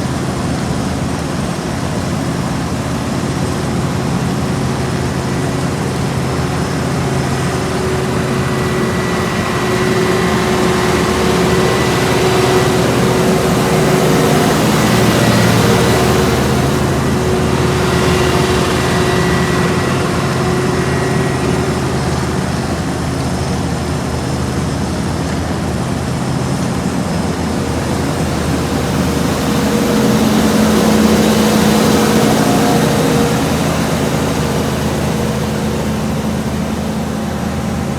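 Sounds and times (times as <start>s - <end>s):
diesel machinery engine drone: 0.0s - 37.9s
low hum: 3.0s - 37.9s.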